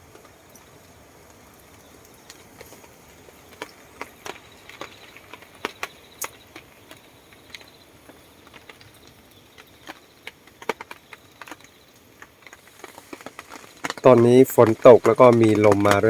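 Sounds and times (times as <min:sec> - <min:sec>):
raindrops tapping on a tarp: 0:00.0 - 0:16.0
high insect trill: 0:01.4 - 0:16.0.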